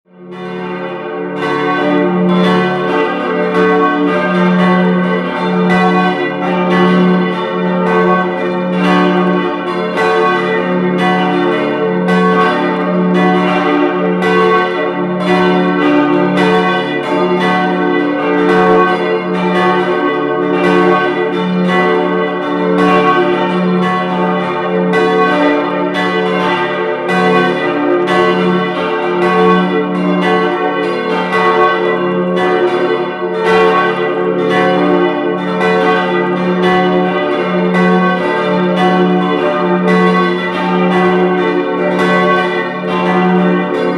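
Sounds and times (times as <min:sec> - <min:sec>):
church bells ringing: 0:00.1 - 0:43.9.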